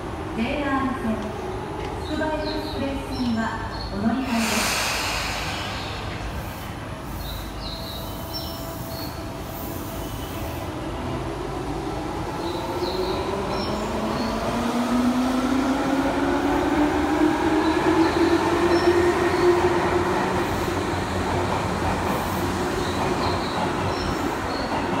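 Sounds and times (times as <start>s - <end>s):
wheels rumbling on rail: 0.0s - 25.0s.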